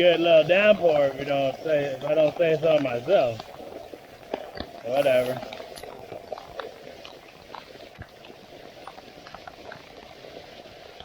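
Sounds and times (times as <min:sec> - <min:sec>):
raindrops ticking: 0:00.0 - 0:10.1.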